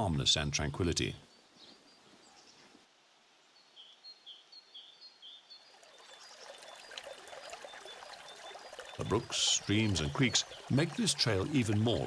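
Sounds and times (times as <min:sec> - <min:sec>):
quiet countryside ambience: 0:00.0 - 0:12.0
bird chirping: 0:00.4 - 0:02.8, 0:03.4 - 0:12.0.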